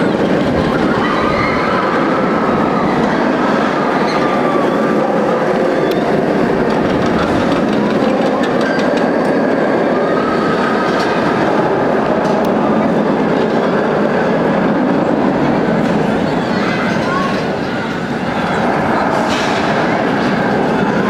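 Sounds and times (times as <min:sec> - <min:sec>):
roller coaster wheels on rails: 0:00.0 - 0:21.0.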